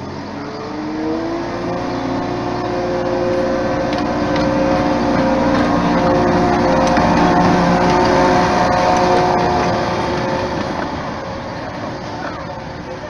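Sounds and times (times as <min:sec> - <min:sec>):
locomotive diesel engine: 0:00.0 - 0:13.0.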